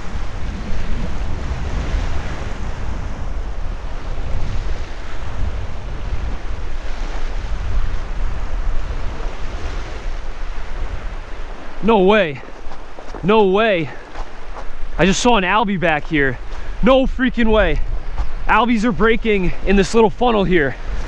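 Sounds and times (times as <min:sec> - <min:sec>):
small waves washing onto shore: 0:00.0 - 0:21.0
wind buffeting microphone: 0:00.0 - 0:21.0.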